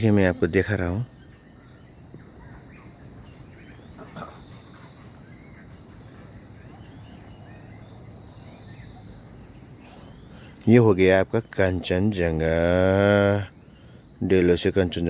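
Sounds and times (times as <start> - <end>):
insects shrilling in a high drone: 0.0 - 15.0.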